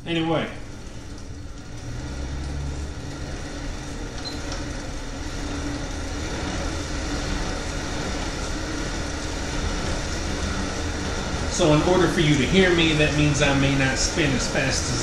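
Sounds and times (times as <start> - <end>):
exercise bike fan whirring: 0.0 - 15.0.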